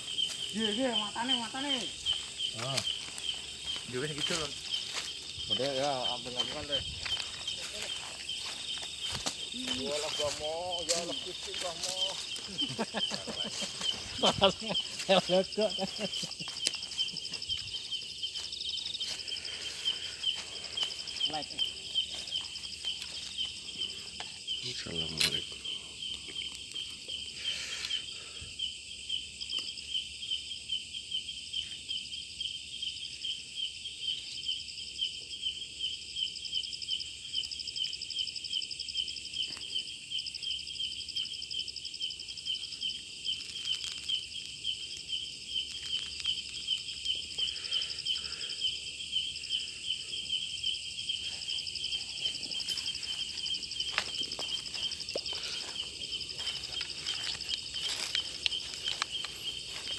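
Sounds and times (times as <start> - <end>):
high continuous insect buzz: 0.0 - 59.9
insects pulsing trill: 0.0 - 59.9.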